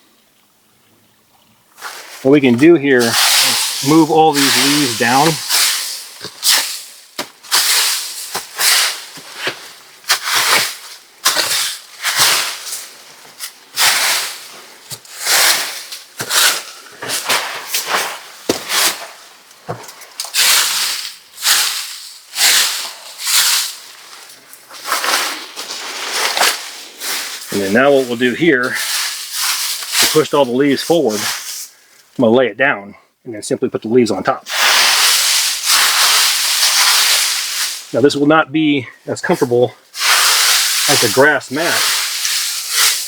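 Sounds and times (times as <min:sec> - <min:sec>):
dry leaves rustling and crackling: 0:01.8 - 0:31.8, 0:34.5 - 0:38.0, 0:39.8 - 0:43.0.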